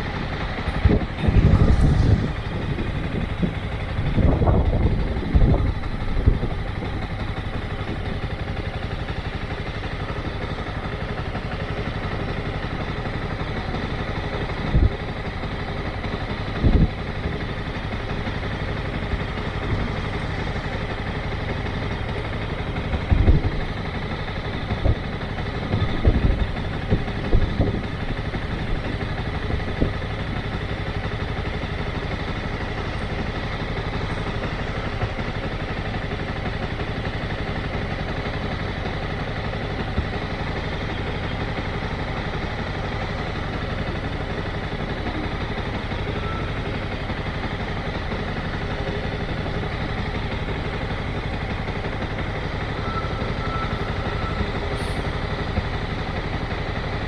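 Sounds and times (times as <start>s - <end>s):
motorcycle engine at low revs: 0.0s - 57.0s.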